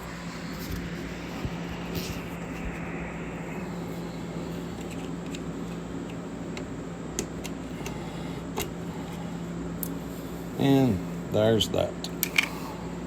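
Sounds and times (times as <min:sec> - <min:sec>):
shop fan hum: 0:00.0 - 0:13.0.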